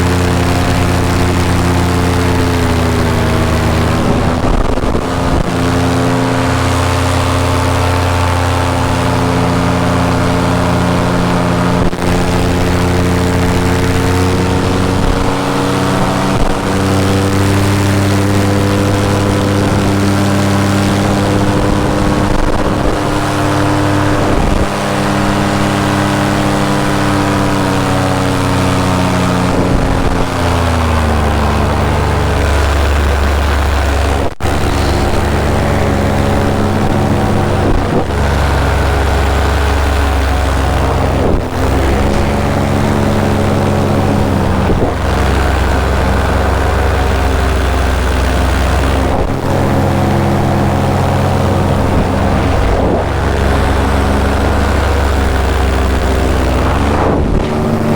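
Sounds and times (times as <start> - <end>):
paramotor engine and propeller: 0.0 - 57.9
wind noise: 0.0 - 57.9.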